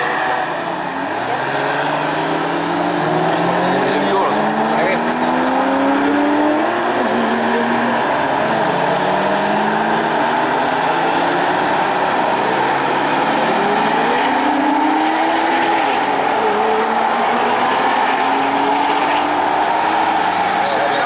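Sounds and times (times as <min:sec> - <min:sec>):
sports car engines passing: 0:00.0 - 0:21.0.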